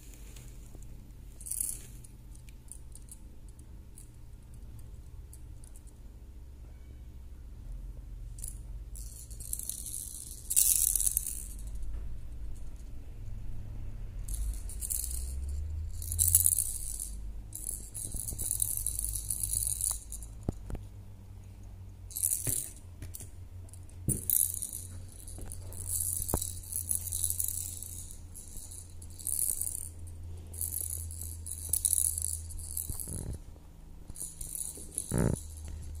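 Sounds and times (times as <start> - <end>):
low hum: 0.0 - 36.0
rattle toy shaken: 1.2 - 6.1, 8.2 - 20.9, 22.0 - 36.0.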